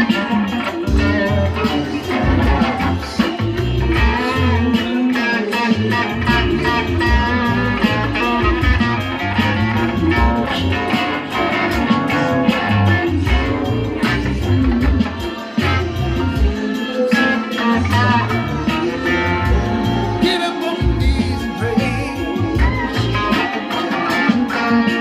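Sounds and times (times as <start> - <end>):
backing track with bass and beat: 0.0 - 25.0
electric guitar playing: 0.0 - 25.0.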